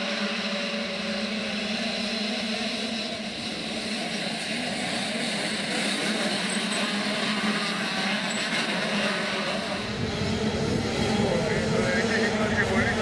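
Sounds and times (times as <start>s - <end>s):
motocross bike engines running: 0.0s - 13.0s.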